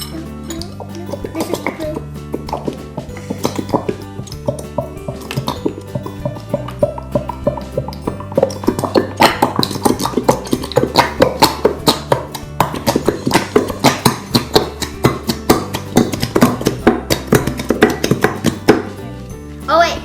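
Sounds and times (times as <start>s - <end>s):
low bass line: 0.0s - 20.0s
plucked string music: 0.0s - 20.0s.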